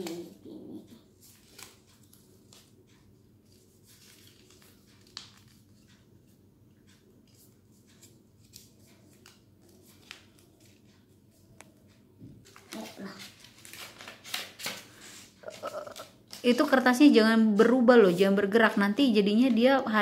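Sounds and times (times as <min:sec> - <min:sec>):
low room hum: 0:00.0 - 0:20.0
paper strip rustling and ticking: 0:00.0 - 0:20.0.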